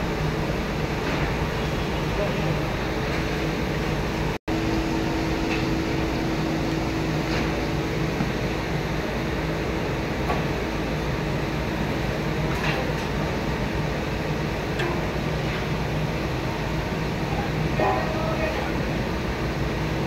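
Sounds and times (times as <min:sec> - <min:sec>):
machine hum with low drone: 0:00.0 - 0:20.0.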